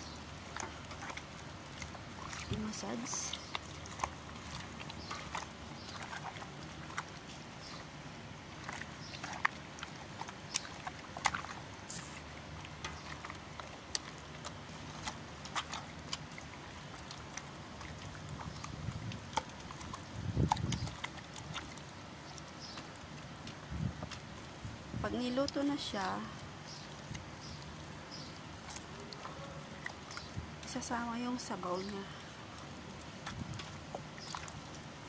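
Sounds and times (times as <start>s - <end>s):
wet squelches of massaged meat: 0.0s - 35.0s.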